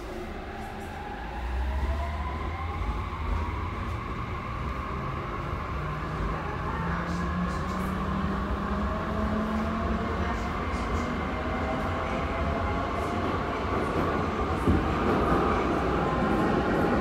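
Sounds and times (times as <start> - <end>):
train wheels rumbling on track: 3.2 - 17.0.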